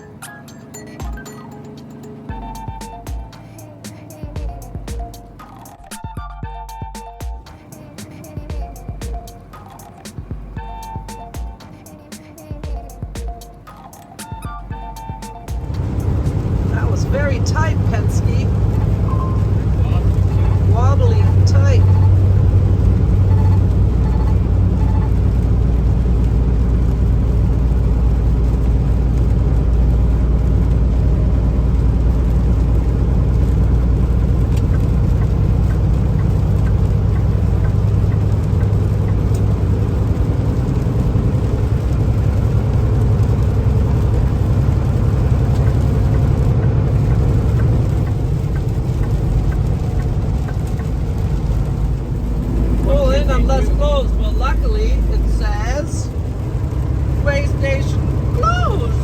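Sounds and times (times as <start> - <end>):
truck diesel engine cruising: 0.0 - 59.0
tyre and road noise: 0.0 - 59.0.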